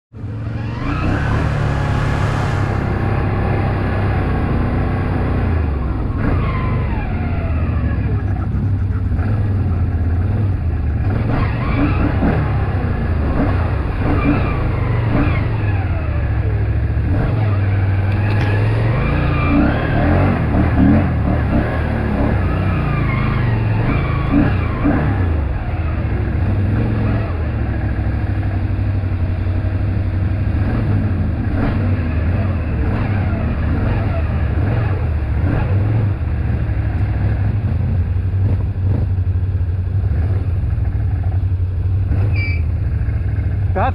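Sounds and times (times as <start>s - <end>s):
atv engine revving: 0.1s - 43.9s.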